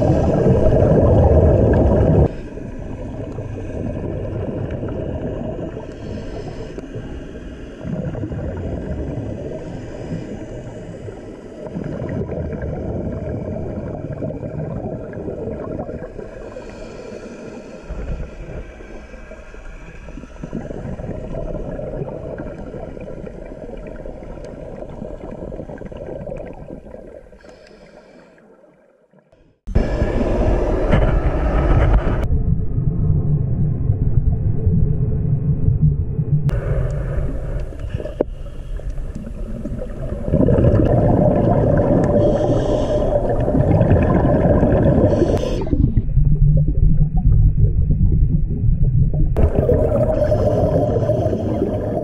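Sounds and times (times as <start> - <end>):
underwater rumble of moving water: 0.0 - 52.0.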